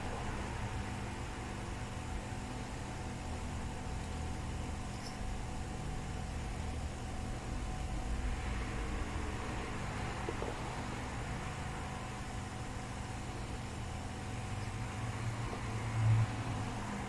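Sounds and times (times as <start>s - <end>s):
equipment low hum: 0.0s - 17.0s.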